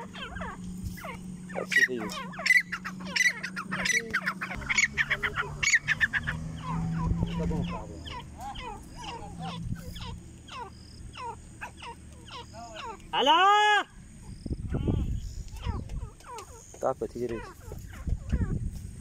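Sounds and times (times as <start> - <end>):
francolins chirping calls: 0.0 - 19.0.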